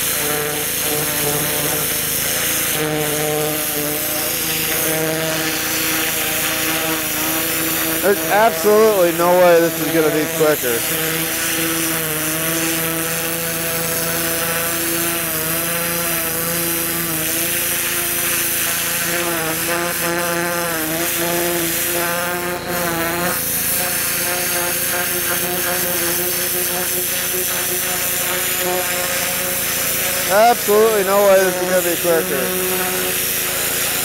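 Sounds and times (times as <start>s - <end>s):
pressure washer motor humming: 0.0s - 34.0s
water spray hissing: 0.0s - 34.0s.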